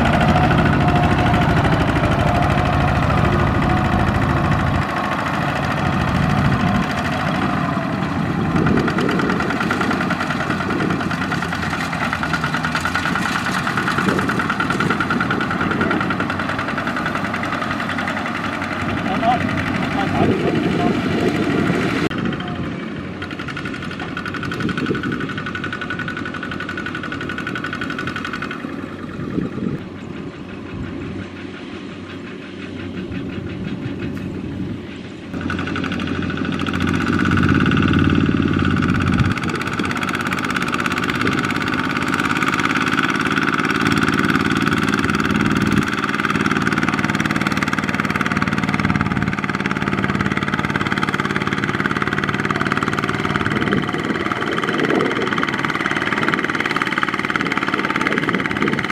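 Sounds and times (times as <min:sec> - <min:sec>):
diesel engine under load: 0:00.0 - 0:58.9.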